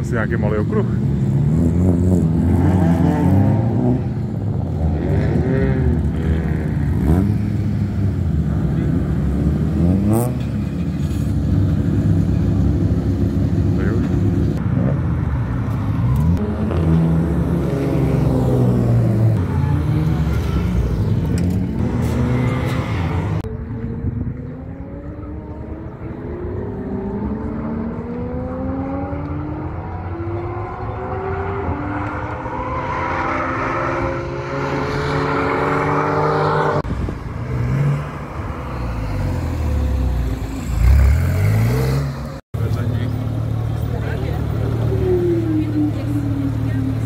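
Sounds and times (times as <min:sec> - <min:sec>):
distant engines accelerating: 0:00.0 - 0:47.0
sports car passing and revving: 0:00.0 - 0:47.0.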